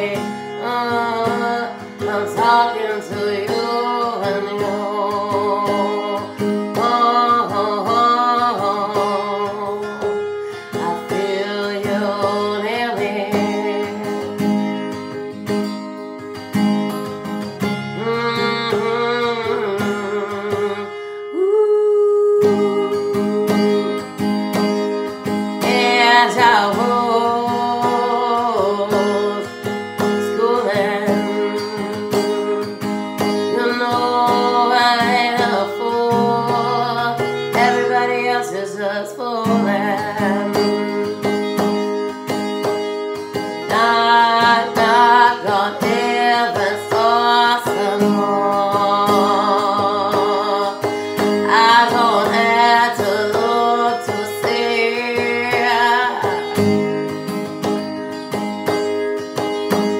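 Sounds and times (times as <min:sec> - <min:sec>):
strummed acoustic guitar: 0:00.0 - 0:59.9
woman singing: 0:00.0 - 0:59.9.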